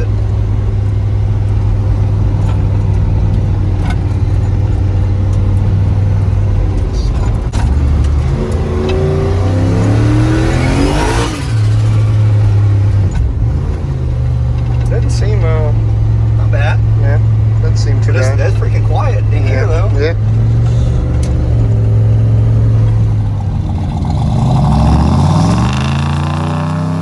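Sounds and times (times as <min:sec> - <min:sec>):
truck engine drone from cab: 0:00.0 - 0:27.0.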